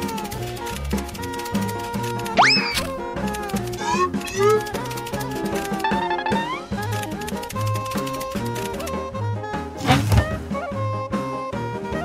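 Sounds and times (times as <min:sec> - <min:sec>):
upbeat jazzy music: 0:00.0 - 0:12.0.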